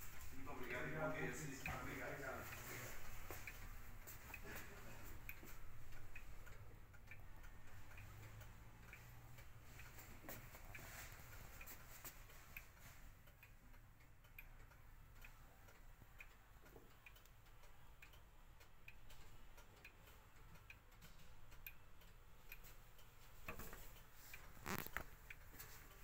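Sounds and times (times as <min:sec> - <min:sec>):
clock ticking: 0:00.0 - 0:26.0.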